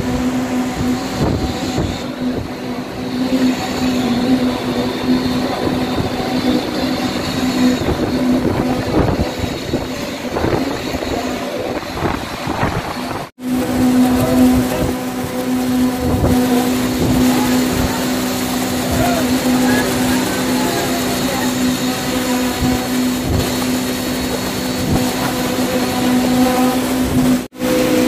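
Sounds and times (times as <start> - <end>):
construction machinery humming: 0.0 - 28.0.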